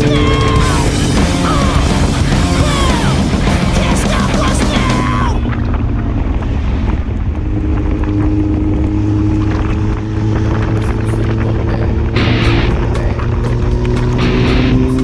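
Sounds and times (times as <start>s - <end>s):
motorcycle engine running: 0.0s - 15.0s
wind on microphone: 0.2s - 15.0s.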